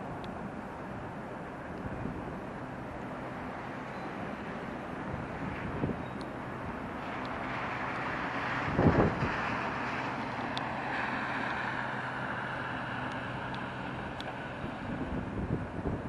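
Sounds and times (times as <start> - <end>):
tyres hissing on wet road: 0.0 - 16.0
wind buffeting microphone: 0.0 - 16.0.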